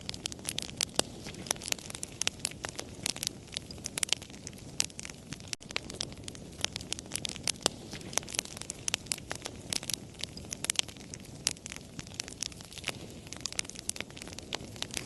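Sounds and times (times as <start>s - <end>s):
low hiss of burning: 0.0s - 15.0s
wood fire crackling: 0.0s - 15.0s.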